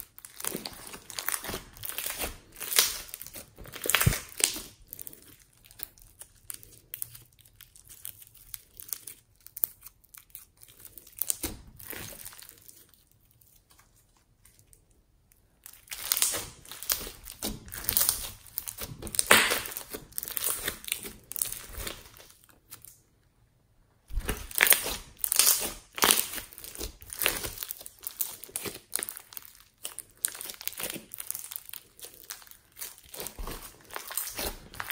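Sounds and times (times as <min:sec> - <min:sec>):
foam bead slime crackling: 0:00.0 - 0:23.0, 0:24.1 - 0:34.9.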